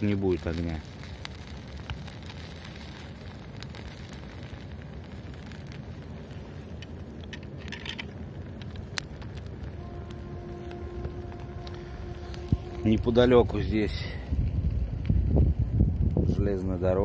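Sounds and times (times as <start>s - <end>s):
twig fire crackling and popping: 0.0s - 17.0s
low steady rumble: 0.8s - 17.0s.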